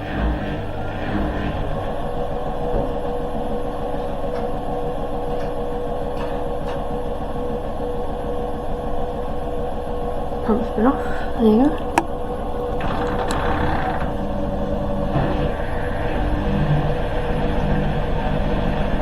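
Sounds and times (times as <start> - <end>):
pump whine: 0.0 - 19.0
washing machine spinning: 0.0 - 19.0.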